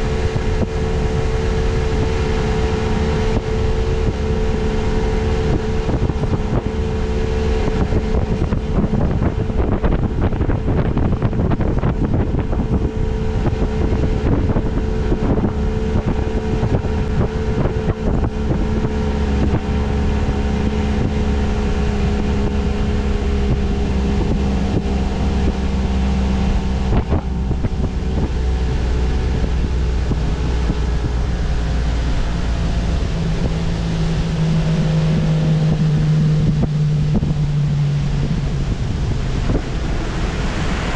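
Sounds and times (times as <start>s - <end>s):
boat motor running: 0.0s - 40.9s
water rushing past hull: 0.0s - 40.9s
wind buffeting microphone: 0.0s - 40.9s.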